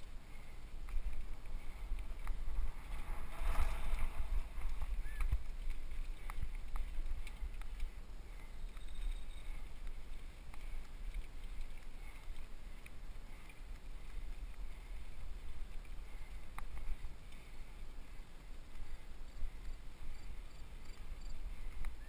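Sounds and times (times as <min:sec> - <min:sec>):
wind and riding rumble: 0:00.0 - 0:22.0
faint clicks: 0:00.8 - 0:03.0, 0:04.6 - 0:22.0.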